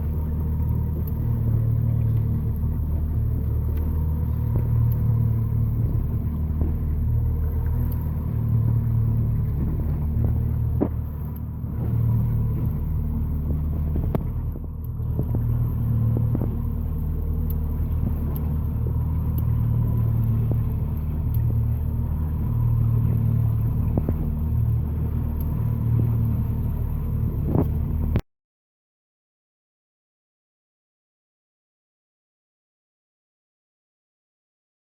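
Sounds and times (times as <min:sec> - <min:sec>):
outboard motor droning: 0:00.0 - 0:28.2.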